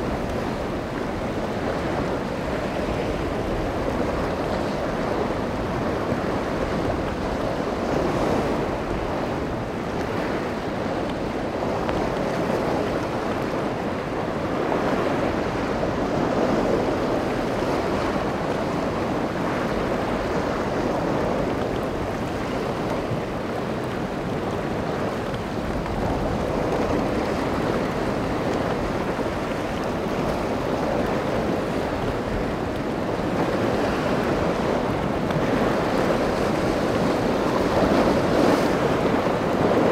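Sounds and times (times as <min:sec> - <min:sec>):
surf: 0:00.0 - 0:39.9
wind: 0:00.0 - 0:39.9
wind buffeting the microphone: 0:00.0 - 0:39.9.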